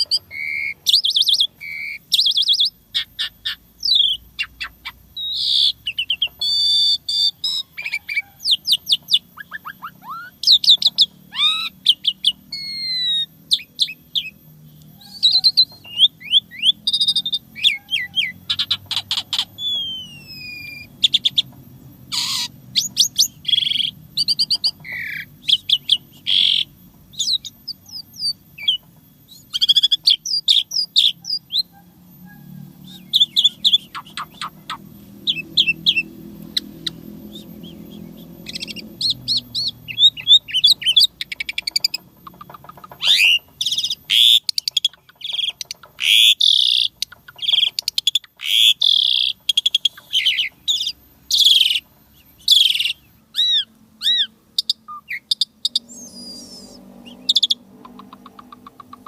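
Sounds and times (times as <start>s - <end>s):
faint low hum: 0.0s - 59.0s
starling singing: 0.0s - 59.0s.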